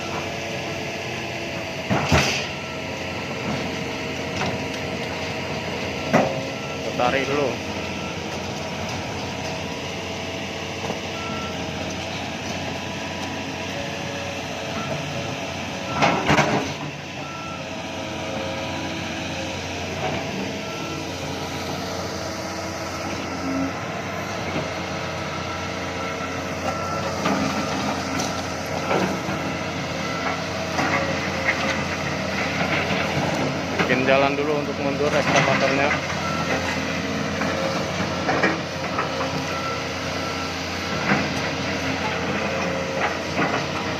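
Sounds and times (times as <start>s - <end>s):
diesel machinery running: 0.0s - 43.9s.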